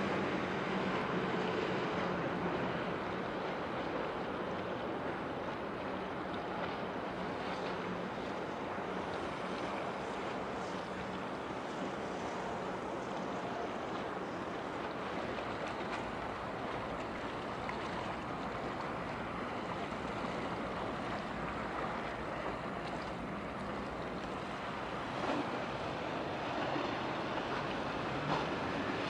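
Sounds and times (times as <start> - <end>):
rushing water: 0.0 - 29.0
ship low drone: 0.0 - 29.0.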